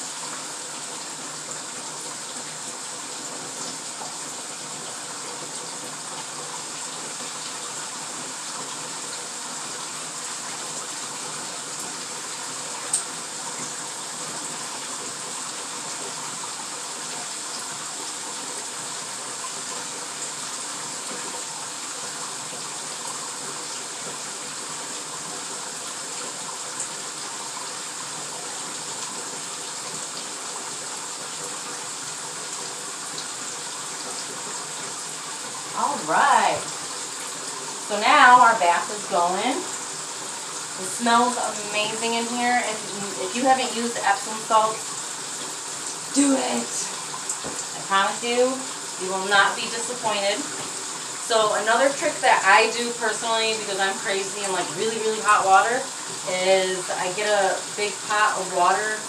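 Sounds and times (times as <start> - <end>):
bathtub tap running: 0.0 - 52.0.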